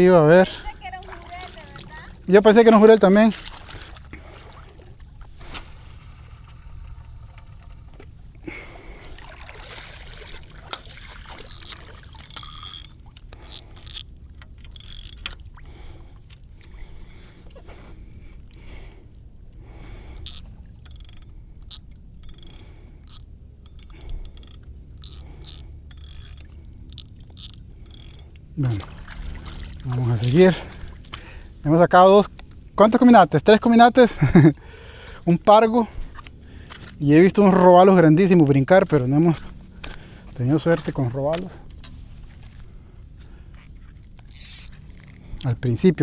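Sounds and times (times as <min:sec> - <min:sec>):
fishing gear knocking and clicking: 0:00.0 - 0:46.0
light water splashing: 0:00.0 - 0:46.0.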